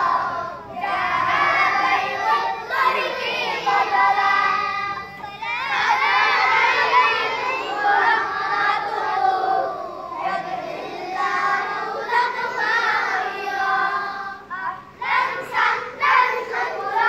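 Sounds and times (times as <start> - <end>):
boys singing together: 0.0 - 17.0.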